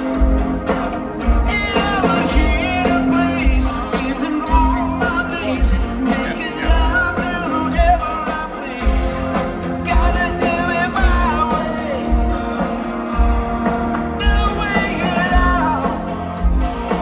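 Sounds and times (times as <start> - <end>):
live rock band: 0.0 - 17.0
person singing: 0.1 - 12.6, 14.1 - 17.0.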